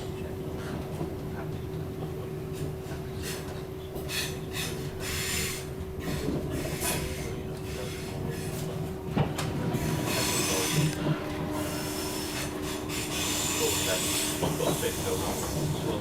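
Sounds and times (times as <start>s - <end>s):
train running low rumble: 0.0s - 16.0s.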